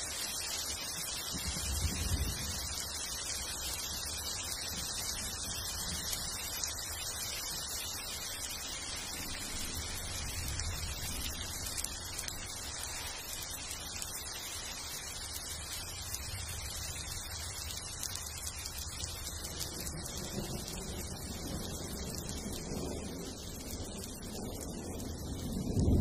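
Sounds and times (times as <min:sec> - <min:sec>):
rain on vegetation: 0:00.0 - 0:26.0.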